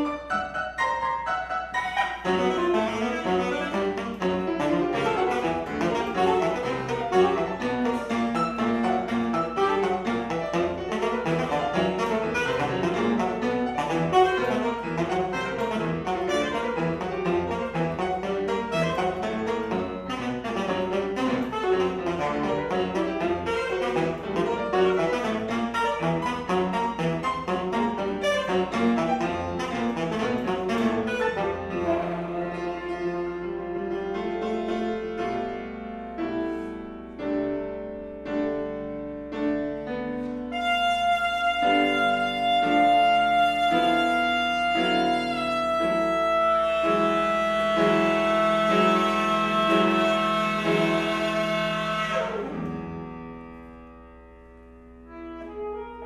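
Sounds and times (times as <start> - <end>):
piano: 0.0 - 56.0
alto saxophone: 1.7 - 37.2, 40.2 - 53.6, 55.0 - 56.0.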